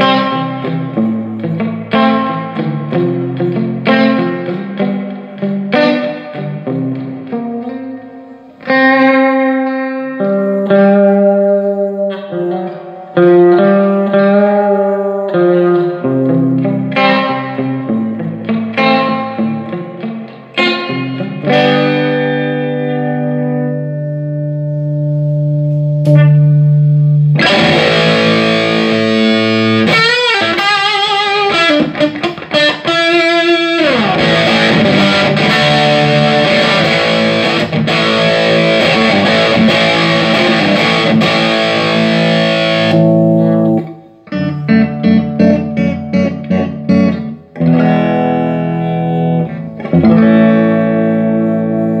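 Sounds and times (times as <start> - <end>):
distorted electric guitar: 0.0 - 52.0.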